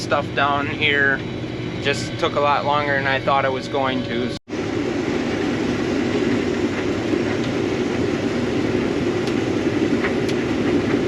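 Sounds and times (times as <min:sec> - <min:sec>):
farm machinery droning: 0:00.0 - 0:11.0.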